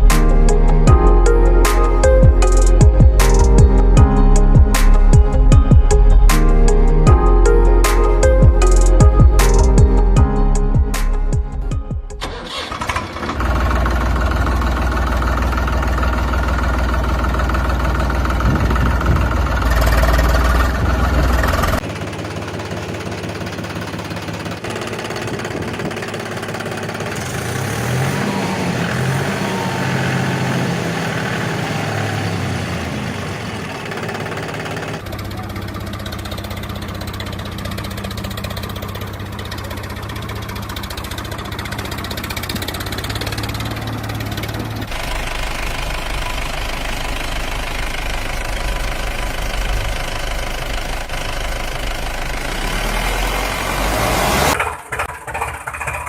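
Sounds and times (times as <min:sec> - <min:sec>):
tractor diesel engines revving: 0:00.0 - 0:56.0.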